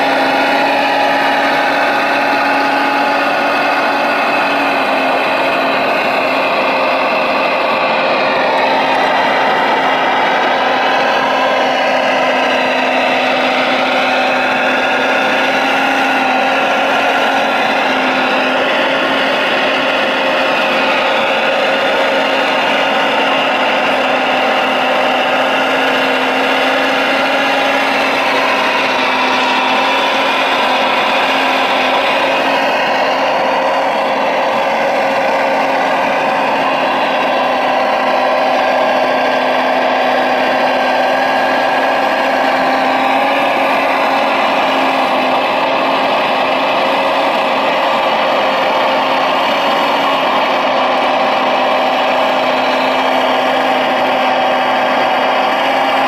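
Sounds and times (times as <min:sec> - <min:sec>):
hydraulic excavator whining: 0:00.0 - 0:56.0.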